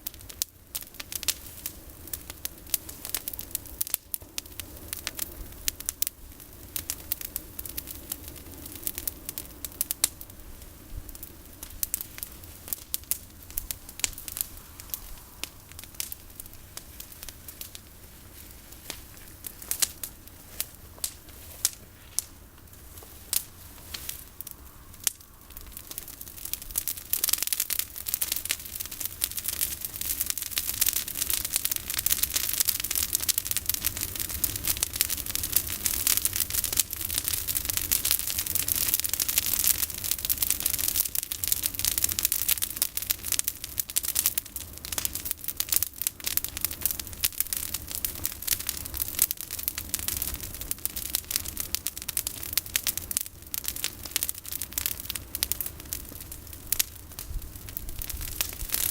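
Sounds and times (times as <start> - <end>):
campfire crackling and popping: 0.0 - 58.9
fire hissing: 0.0 - 58.9.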